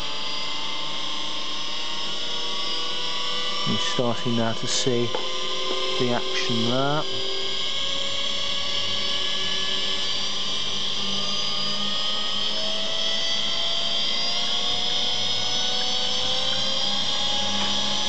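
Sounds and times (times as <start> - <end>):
mixer motor whining: 0.0 - 18.0.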